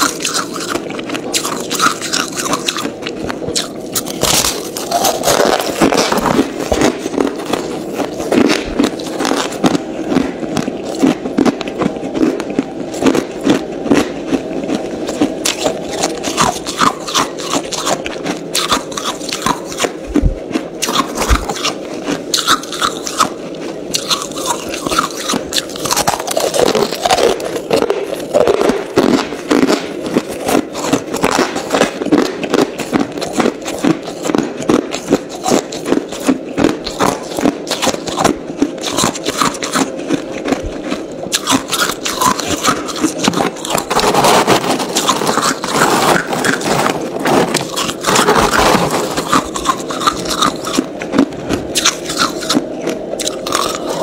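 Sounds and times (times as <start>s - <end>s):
ice crunching while chewed: 0.0s - 54.0s.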